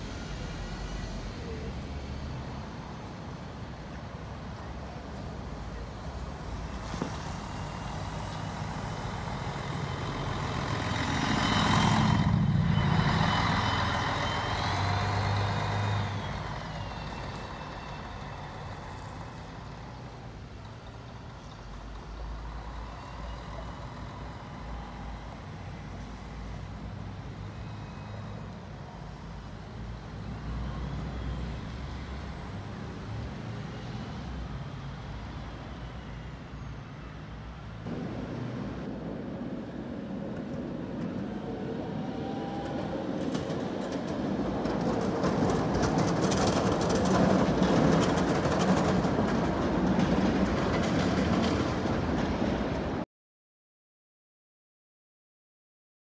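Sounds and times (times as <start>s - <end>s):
tram running on track: 0.0s - 53.0s
wheels clicking on rails: 3.0s - 36.1s, 37.9s - 53.0s.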